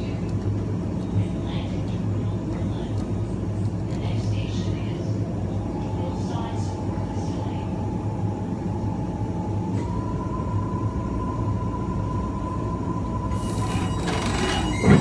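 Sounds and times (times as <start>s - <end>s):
electric train inverter whine: 0.0s - 15.0s
train wheel and track rumble: 0.0s - 15.0s.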